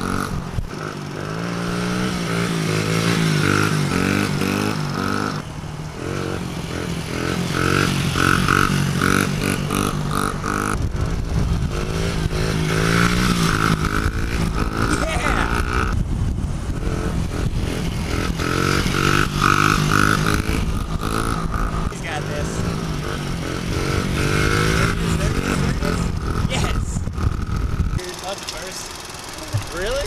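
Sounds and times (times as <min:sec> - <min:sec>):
small motorcycle engine revving: 0:00.0 - 0:30.0.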